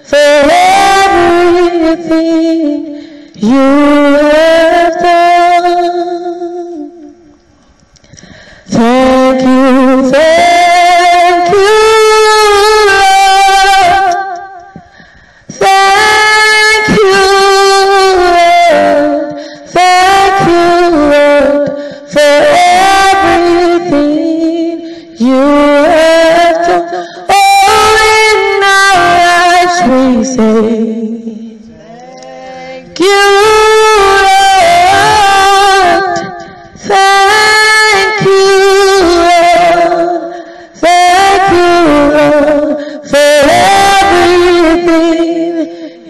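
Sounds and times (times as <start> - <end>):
woman singing a worship song: 0.0 - 7.3, 8.1 - 46.0.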